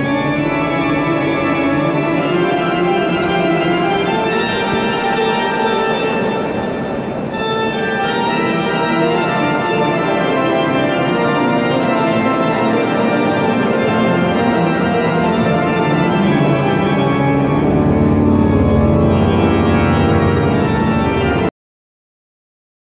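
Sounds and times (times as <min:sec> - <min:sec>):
pipe organ chords: 0:00.0 - 0:21.5.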